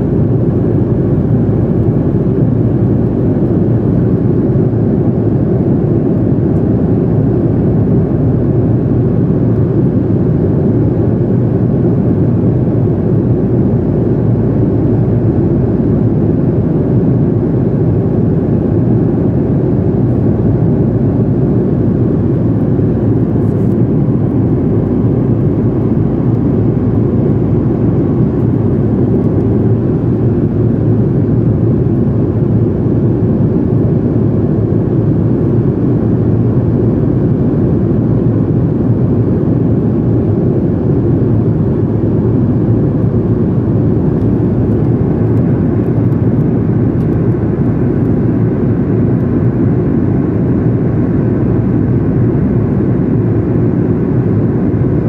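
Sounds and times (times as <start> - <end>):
jet airliner cabin noise: 0.0 - 55.0.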